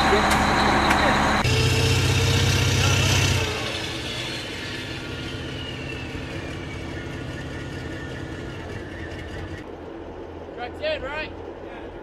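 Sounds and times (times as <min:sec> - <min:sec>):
high whine falling in pitch: 0:00.0 - 0:10.2
heavy vehicle engine idling: 0:00.0 - 0:12.0.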